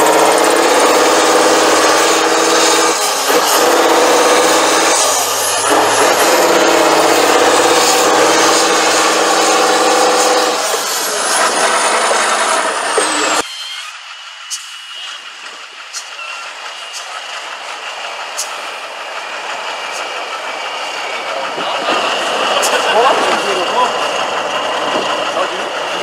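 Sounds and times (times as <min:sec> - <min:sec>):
diesel truck engine under load: 0:00.0 - 0:13.4, 0:14.0 - 0:26.0.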